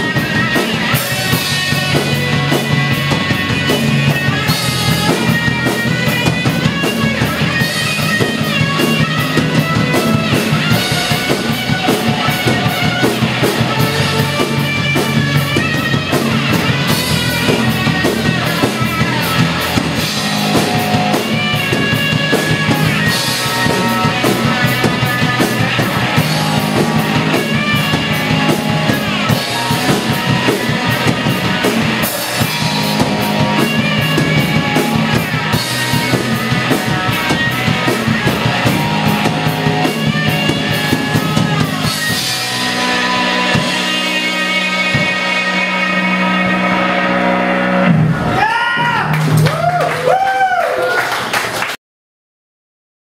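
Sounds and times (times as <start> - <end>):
drum kit fast beat: 0.0 - 46.6
electric guitar: 0.0 - 51.8.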